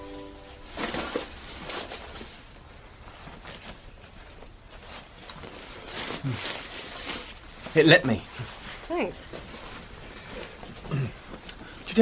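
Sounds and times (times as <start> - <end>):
clothing rustling: 0.0 - 12.0.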